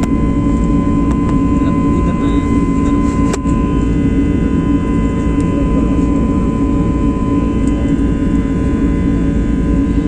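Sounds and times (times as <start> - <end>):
aeroplane engines roaring: 0.0 - 10.0
engine whine: 0.0 - 10.0.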